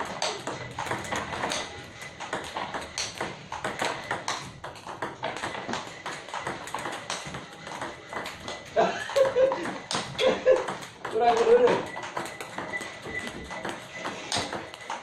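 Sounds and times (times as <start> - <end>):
table tennis balls clicking: 0.0 - 15.0.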